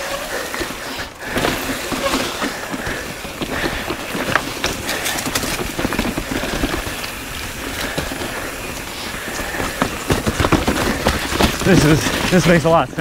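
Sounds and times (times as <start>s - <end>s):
bike knocking and rattling: 0.0s - 13.0s
bike tyres rushing on dirt: 0.0s - 13.0s.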